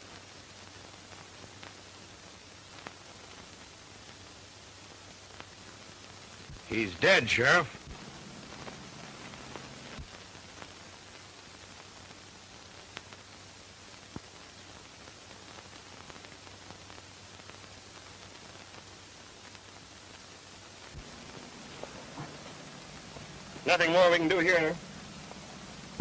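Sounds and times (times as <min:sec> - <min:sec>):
faint low hum: 0:00.0 - 0:26.0
film soundtrack hiss: 0:00.0 - 0:26.0.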